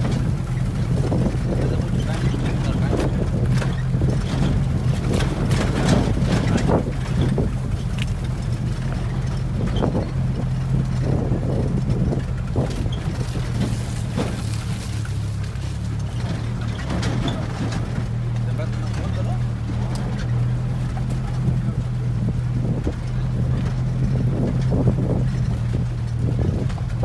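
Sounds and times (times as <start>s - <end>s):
vehicle engine droning: 0.0s - 27.0s
wind buffeting microphone: 0.0s - 27.0s.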